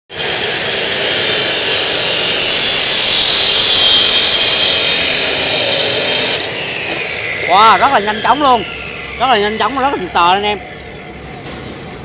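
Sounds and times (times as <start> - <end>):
abrasive wheel grinding steel: 0.1 - 12.0
saw motor running: 0.1 - 12.0.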